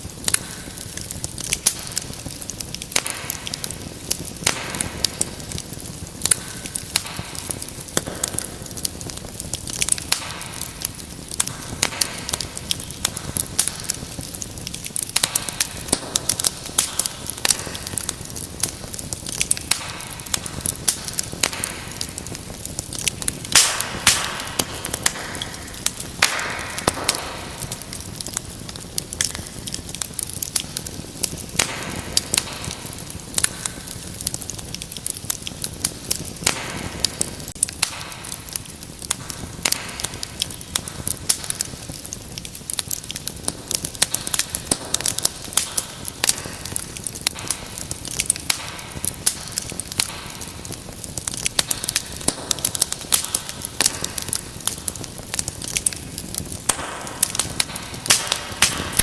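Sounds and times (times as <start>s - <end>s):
hiss of burning: 0.0s - 59.0s
wood fire crackling and popping: 0.0s - 59.0s.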